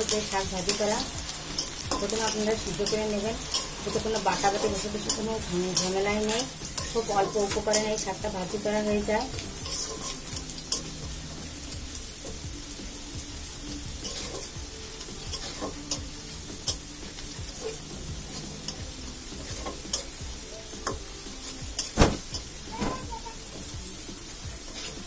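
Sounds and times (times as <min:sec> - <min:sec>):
metal spatula scraping a pan: 0:00.0 - 0:20.2, 0:20.8 - 0:23.0, 0:24.3 - 0:25.0
garlic sizzling in hot oil: 0:00.0 - 0:25.0.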